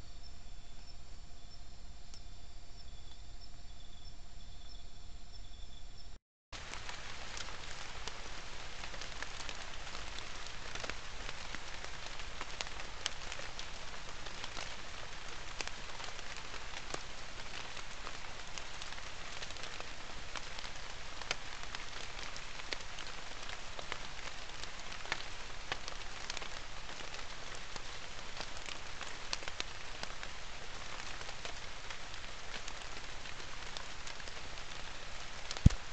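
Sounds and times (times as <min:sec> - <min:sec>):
rain falling on foliage: 0:06.6 - 0:35.9.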